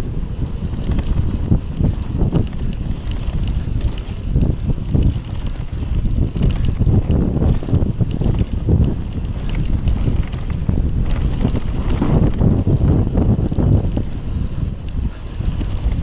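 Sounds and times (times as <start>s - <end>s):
bike rattling clicks: 0.0s - 16.0s
wind buffeting microphone: 0.0s - 16.0s.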